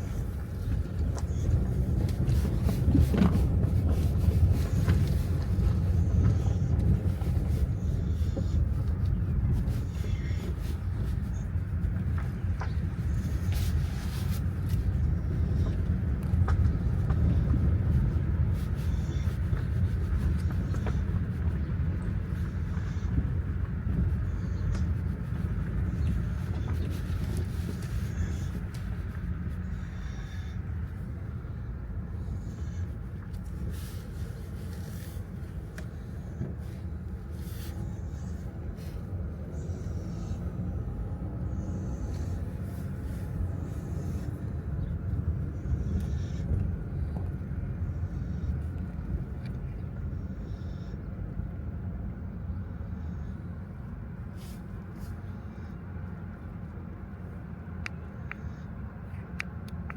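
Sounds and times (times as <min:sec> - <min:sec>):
vehicle driving rumble: 0:00.0 - 0:59.9.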